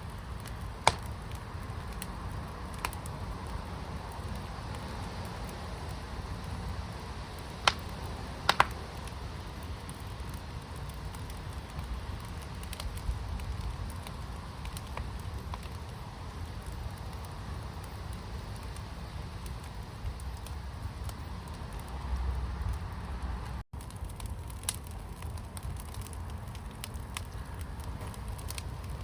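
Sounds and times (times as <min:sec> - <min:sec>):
fire popping: 0:00.0 - 0:29.0
wood fire crackling: 0:00.0 - 0:29.0.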